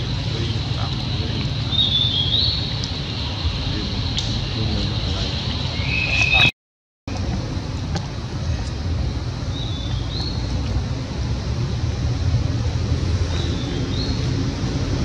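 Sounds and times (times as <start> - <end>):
low outdoor rumble: 0.0 - 6.5, 7.1 - 15.0.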